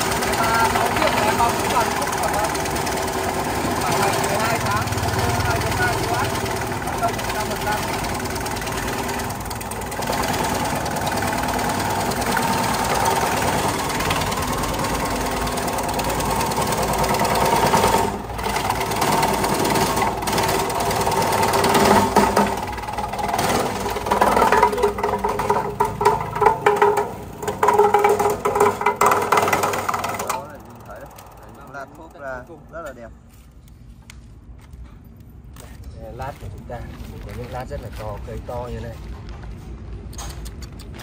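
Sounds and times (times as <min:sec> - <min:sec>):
slicing machine hum: 0:00.0 - 0:32.9.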